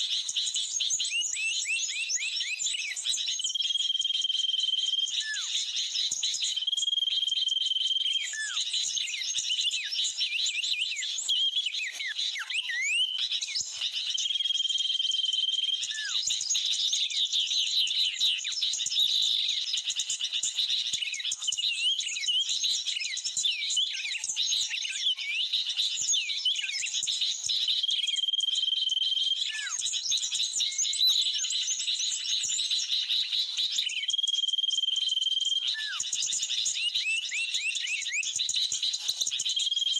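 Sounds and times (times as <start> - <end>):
birds chirping chorus: 0.0 - 39.9.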